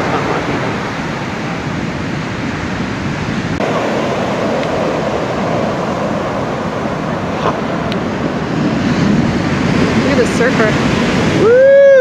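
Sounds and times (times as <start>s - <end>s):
heavy surf breaking: 0.0s - 12.0s.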